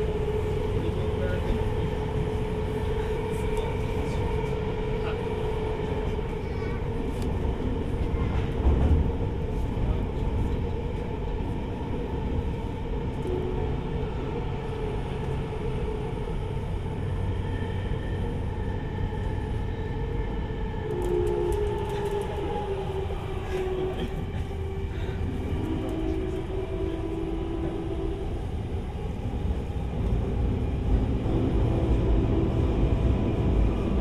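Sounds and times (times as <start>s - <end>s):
faint train whines: 0.0s - 34.0s
train wheels rumbling on rail: 0.0s - 34.0s.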